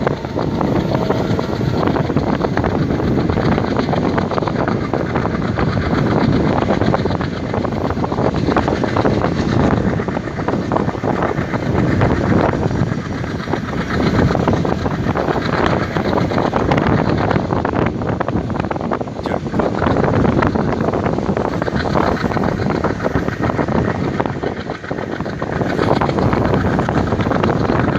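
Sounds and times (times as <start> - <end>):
train rumble and clatter: 0.0 - 27.9
wind buffeting microphone: 0.0 - 27.9.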